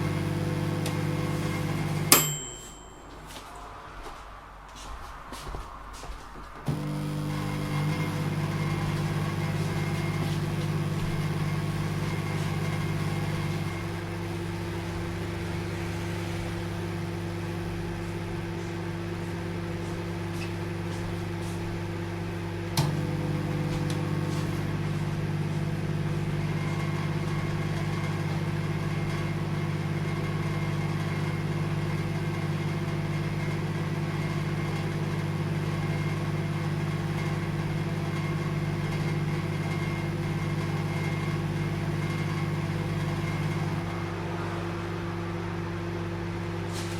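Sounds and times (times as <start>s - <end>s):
microwave oven humming: 0.0s - 3.4s, 6.6s - 46.9s.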